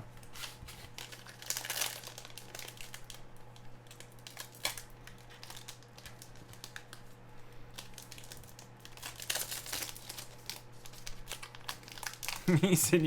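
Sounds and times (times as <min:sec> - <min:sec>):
faint steady hum: 0:00.0 - 0:13.0
wrappers crinkling and tearing: 0:00.2 - 0:13.0.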